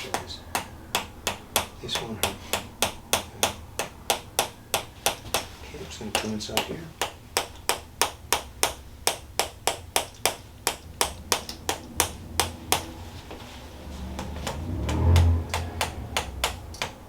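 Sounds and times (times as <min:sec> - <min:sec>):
wooden mallet tapping wooden wedge: 0:00.0 - 0:13.4, 0:14.0 - 0:17.0.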